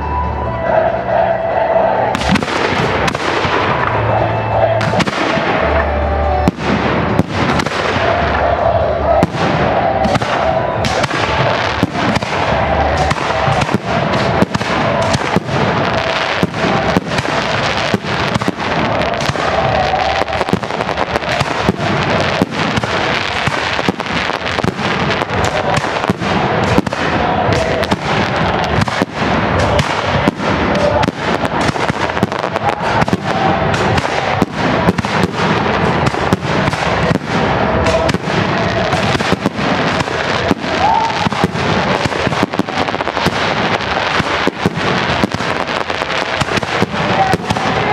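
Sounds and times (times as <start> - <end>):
fireworks crackling: 2.0 - 47.9.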